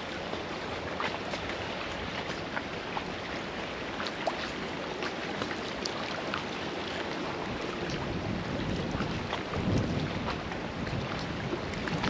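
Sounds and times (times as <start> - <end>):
waves lapping against concrete: 0.0 - 12.0
wind: 0.0 - 12.0.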